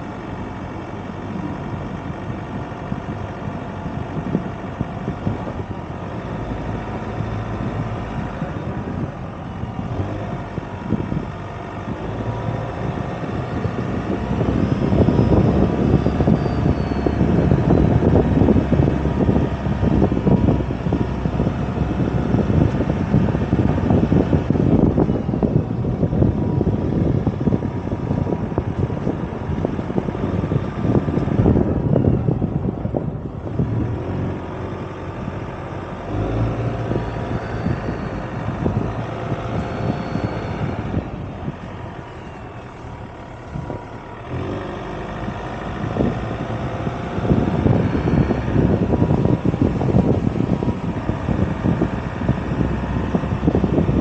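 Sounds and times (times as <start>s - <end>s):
pickup engine running: 0.0s - 54.0s
tyre and road rumble: 0.0s - 54.0s.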